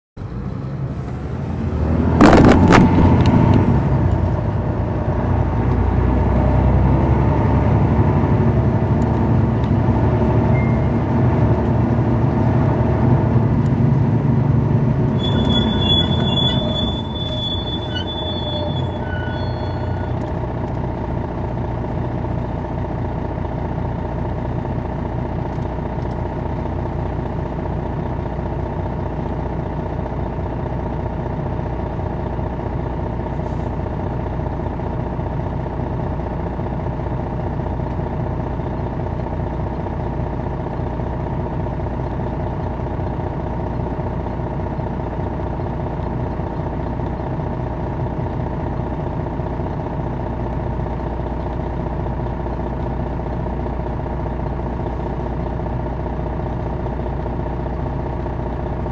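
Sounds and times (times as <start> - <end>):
bus diesel engine droning: 0.2 - 58.9.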